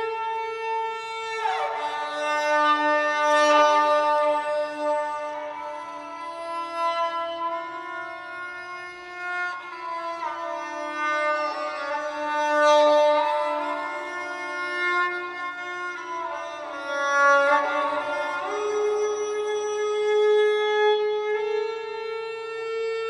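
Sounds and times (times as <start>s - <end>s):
bowed string instrument melody: 0.0s - 23.0s.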